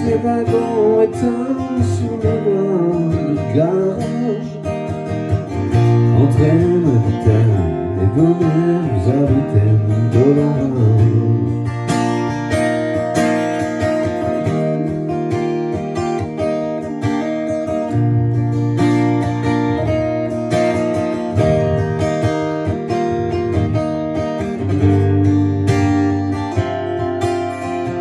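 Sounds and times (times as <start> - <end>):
song with strummed acoustic guitar: 0.0 - 28.0.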